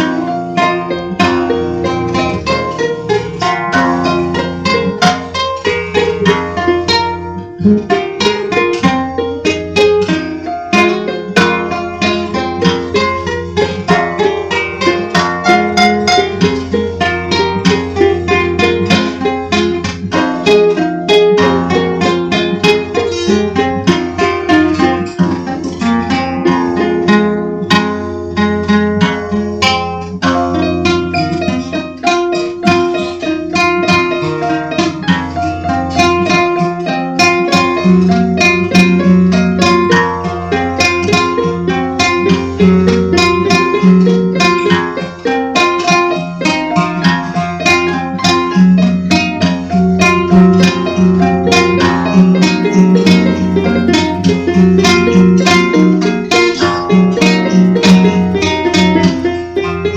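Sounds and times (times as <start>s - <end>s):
plucked string notes: 0.0s - 59.9s.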